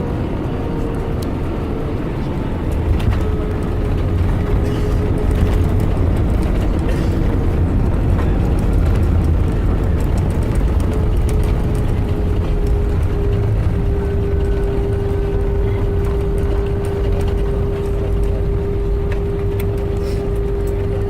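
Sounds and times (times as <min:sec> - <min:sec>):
aircraft engines and airflow rumble: 0:00.0 - 0:21.0
steady hum: 0:00.0 - 0:21.0.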